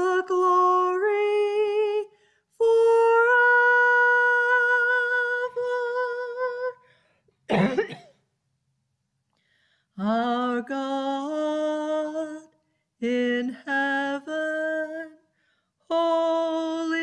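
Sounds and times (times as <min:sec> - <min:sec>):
woman singing unaccompanied: 0:00.0 - 0:06.9, 0:10.0 - 0:17.0.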